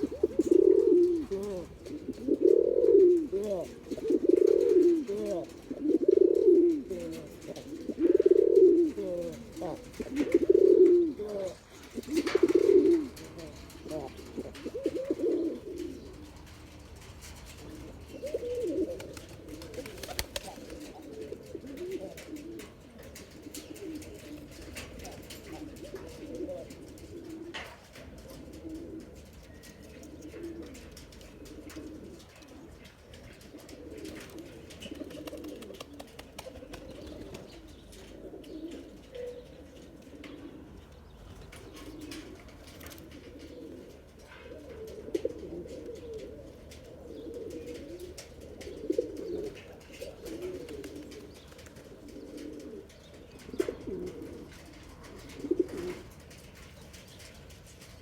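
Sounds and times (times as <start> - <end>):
pigeon cooing: 0.0 - 58.0.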